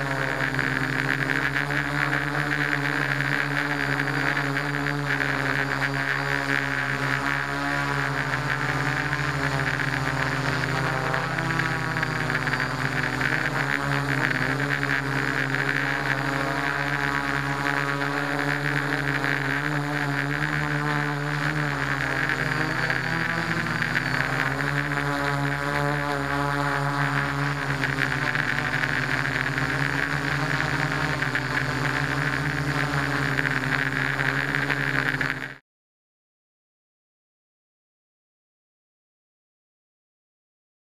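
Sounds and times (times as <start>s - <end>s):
drone propellers whirring: 0.0s - 35.6s.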